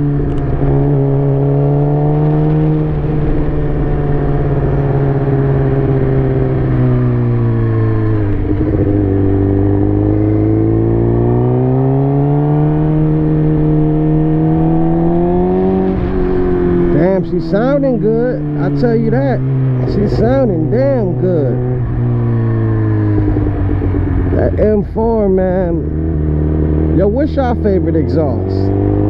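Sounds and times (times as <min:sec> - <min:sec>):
motorcycle engine droning: 0:00.0 - 0:29.0.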